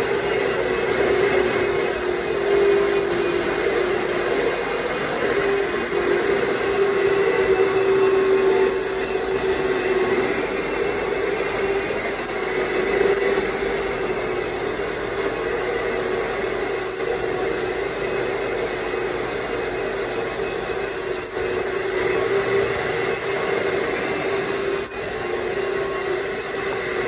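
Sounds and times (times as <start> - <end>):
detailing machine motor hiss and whine: 0.0 - 27.0.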